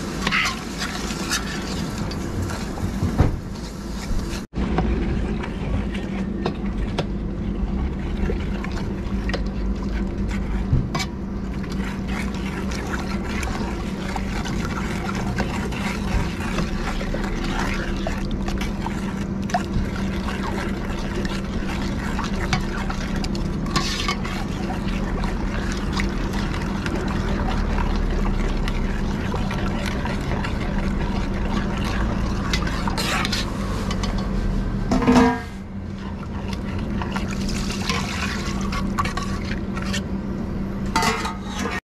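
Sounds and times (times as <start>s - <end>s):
metal ladle scraping pot: 0.0s - 2.3s, 8.0s - 40.1s, 40.9s - 41.8s
steady low hum: 0.0s - 41.8s
thick sauce sloshing: 3.6s - 34.8s, 35.7s - 40.1s.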